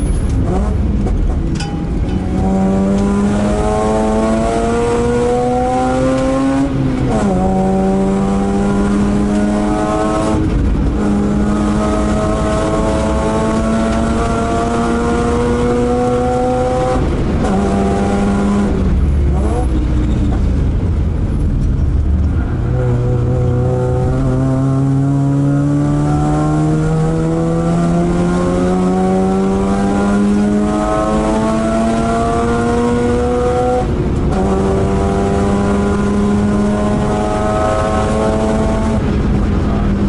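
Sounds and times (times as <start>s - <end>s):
race car engine accelerating: 2.2s - 21.0s, 21.8s - 40.0s.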